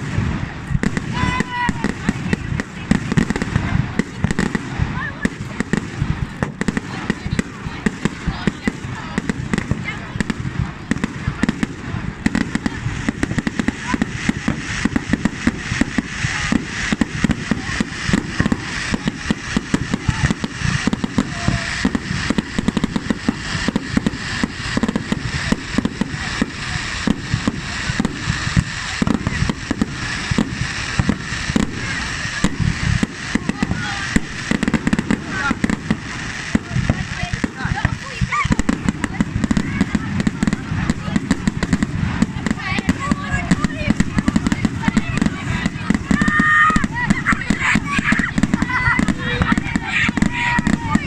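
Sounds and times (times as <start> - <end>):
fireworks bangs and cracks: 0.0 - 51.0.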